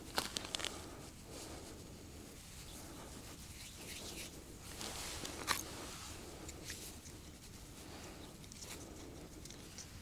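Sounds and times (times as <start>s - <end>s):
hands rustling: 0.0s - 10.0s.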